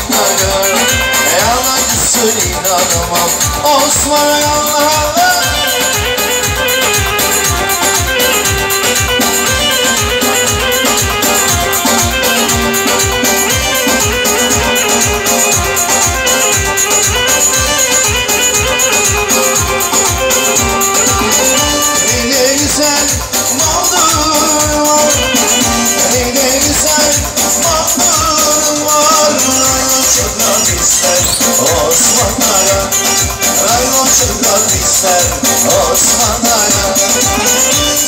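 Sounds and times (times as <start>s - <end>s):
band playing dance music: 0.0s - 38.0s
shaker percussion: 0.0s - 38.0s
steady drum beat: 0.0s - 38.0s.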